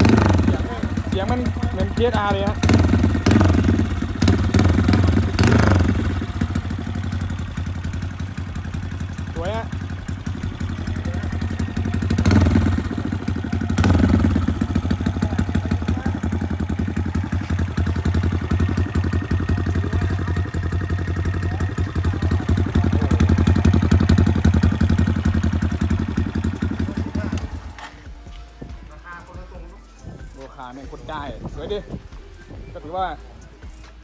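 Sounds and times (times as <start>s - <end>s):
motorcycle throttle blips: 0.0s - 28.1s
motorcycle engine idling: 0.0s - 34.0s.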